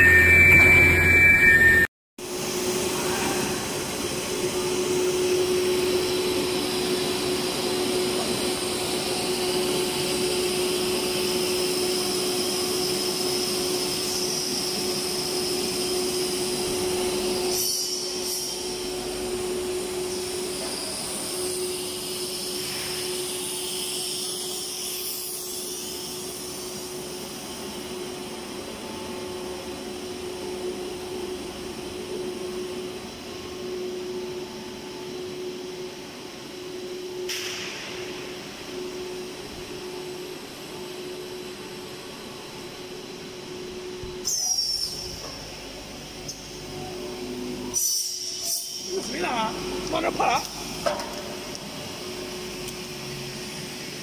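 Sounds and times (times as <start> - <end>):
extrusion machine hum and hiss: 2.2 - 54.0.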